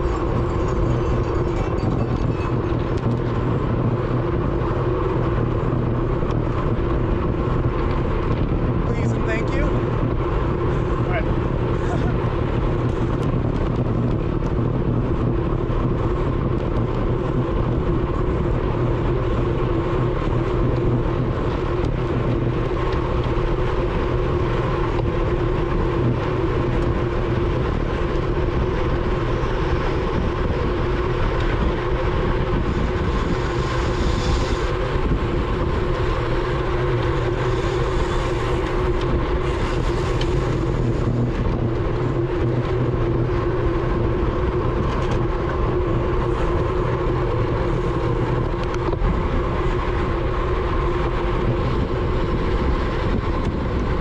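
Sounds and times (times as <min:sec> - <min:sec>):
tyres rumbling on road: 0:00.0 - 0:54.0
wind rushing: 0:00.0 - 0:54.0.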